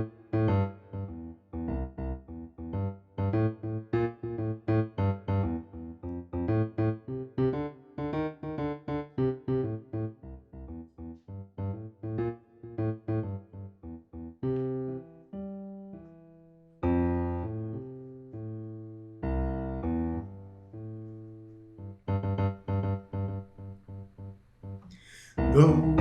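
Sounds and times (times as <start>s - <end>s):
solo piano chords: 0.0s - 26.0s.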